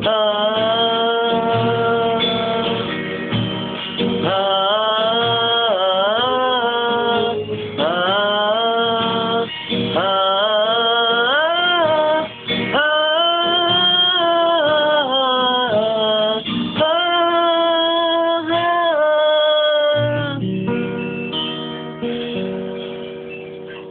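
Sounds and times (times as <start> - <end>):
acoustic guitar strumming: 0.0 - 23.9.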